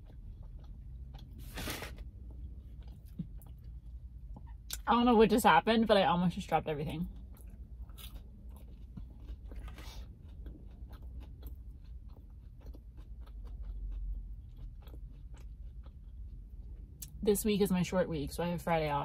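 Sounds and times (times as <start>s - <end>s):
wet chewing with crunches: 0.0s - 4.9s, 6.8s - 17.2s
low steady hum: 0.0s - 19.0s.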